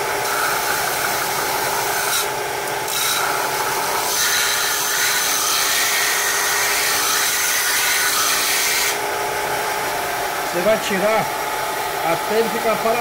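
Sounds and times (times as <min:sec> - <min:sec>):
belt sander grinding wood: 0:00.0 - 0:13.0.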